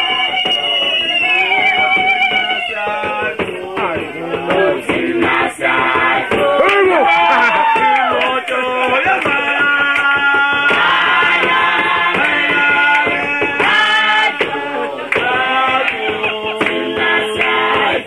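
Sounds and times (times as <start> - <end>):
group singing chant-like notes: 0.0 - 18.0
hand clapping: 0.0 - 18.0
hand-beaten drum rhythm: 0.0 - 18.0.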